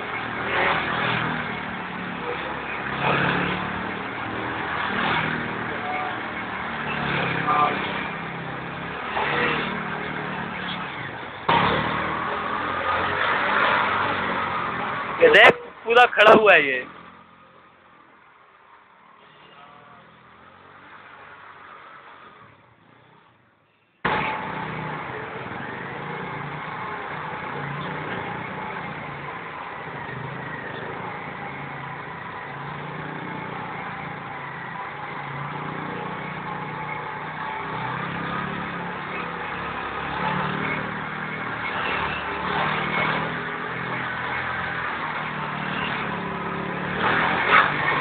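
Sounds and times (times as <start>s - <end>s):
motorcycle engine revving: 0.0s - 15.3s, 24.1s - 48.0s.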